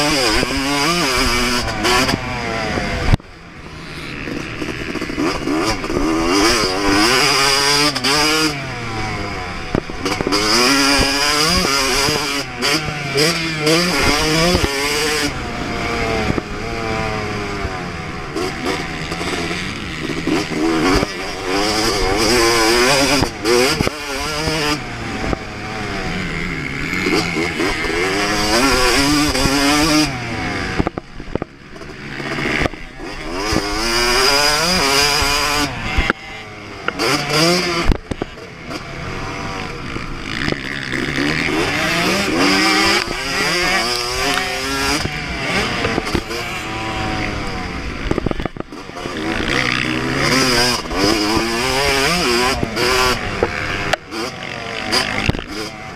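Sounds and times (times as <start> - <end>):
two-stroke dirt bike revving: 0.0 - 55.9.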